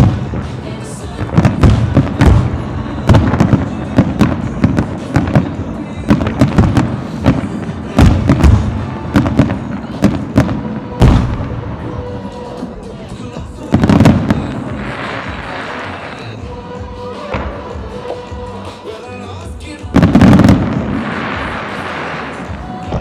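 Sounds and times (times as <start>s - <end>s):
fireworks booming: 0.0s - 16.5s, 19.7s - 23.0s
fireworks crackle: 0.0s - 23.0s.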